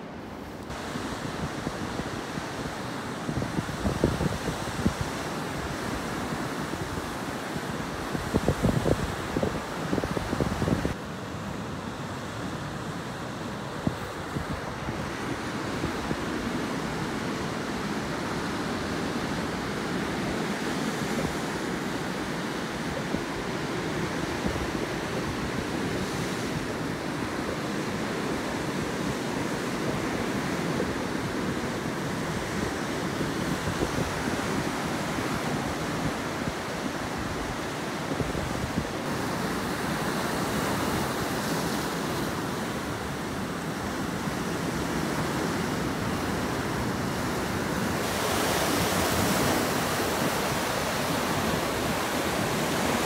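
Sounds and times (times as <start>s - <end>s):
waves breaking on rocky shore: 0.0s - 53.0s.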